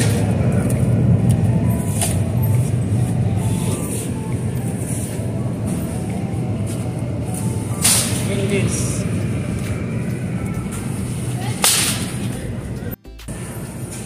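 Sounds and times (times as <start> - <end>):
store background rumble: 0.0 - 14.0.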